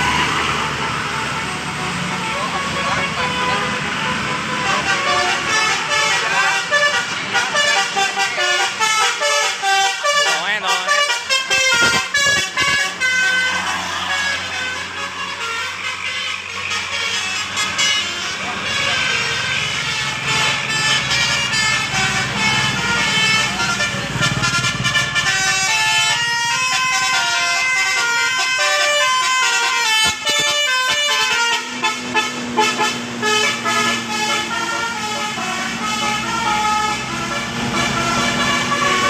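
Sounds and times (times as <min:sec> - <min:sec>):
bus engine rumbling: 0:00.0 - 0:39.0
musical air horn tune: 0:00.0 - 0:39.0.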